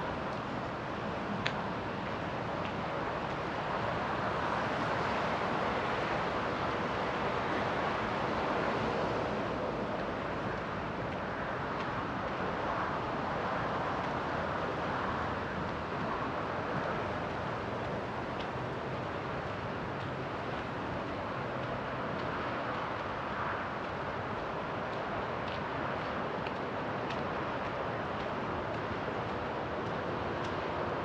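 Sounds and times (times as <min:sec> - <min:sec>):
distant road traffic: 0:00.0 - 0:31.0.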